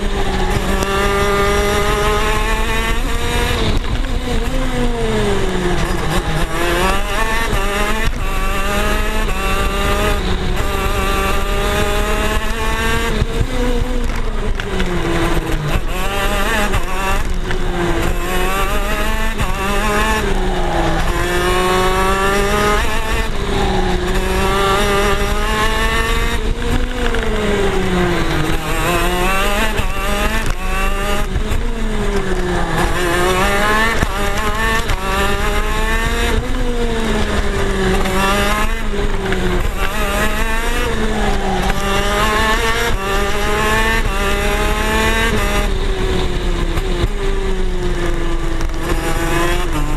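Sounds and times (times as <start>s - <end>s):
two-stroke kart engine revving: 0.0s - 49.9s.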